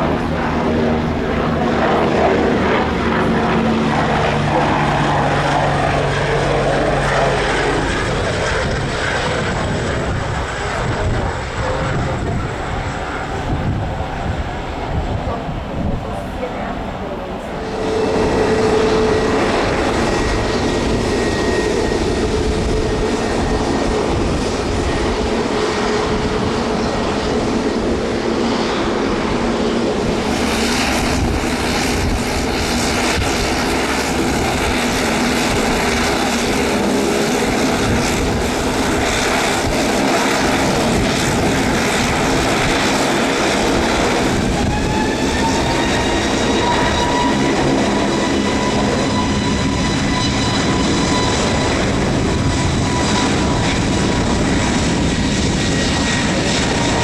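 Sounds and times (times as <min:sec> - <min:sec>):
jet engine whine rising: 0:00.0 - 0:57.0
jet engines running: 0:00.0 - 0:57.0.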